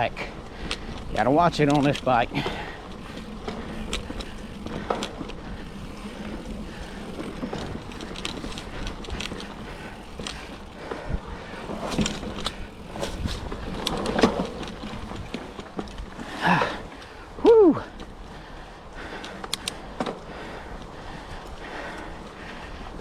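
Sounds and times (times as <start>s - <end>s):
bike clicking and rattling: 0.0s - 23.0s
bike tyres rolling on dirt: 0.0s - 23.0s.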